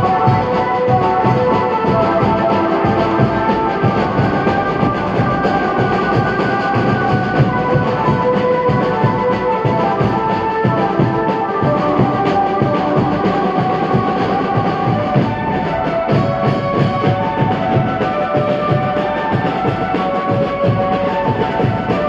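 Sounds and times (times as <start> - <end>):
drums beating march rhythm: 0.0 - 22.0
marching band playing: 0.0 - 22.0.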